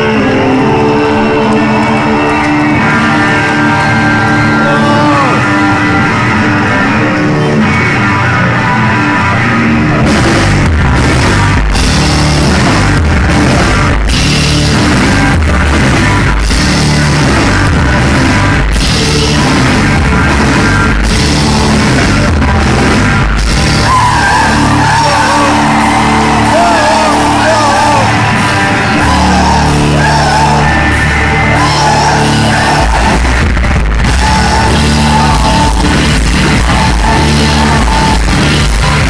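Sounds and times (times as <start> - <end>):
drums: 0.0 - 39.0
guitar riff: 0.0 - 39.0
live rock band playing: 0.0 - 39.0.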